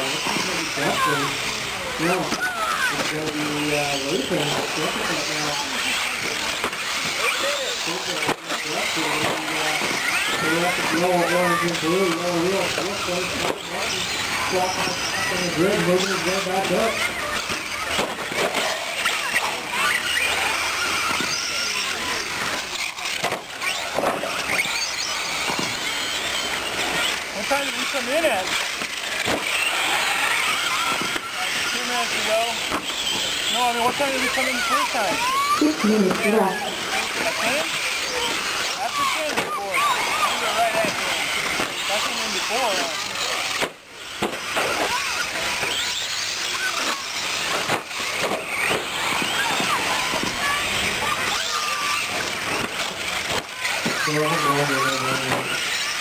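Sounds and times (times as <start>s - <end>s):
rc truck motors whining: 0.0s - 56.0s.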